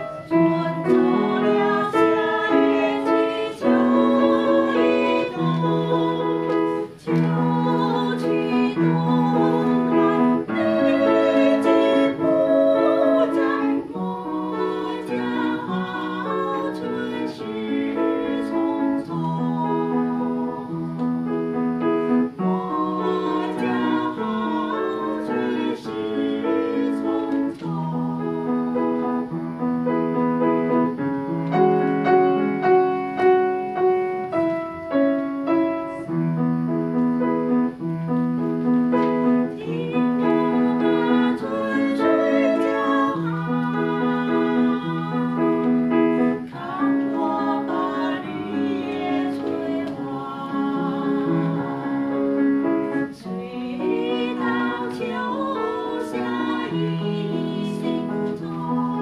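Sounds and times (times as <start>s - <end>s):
women singing a duet: 0.0s - 21.0s, 22.1s - 29.4s, 39.0s - 59.0s
piano chords: 0.0s - 59.0s.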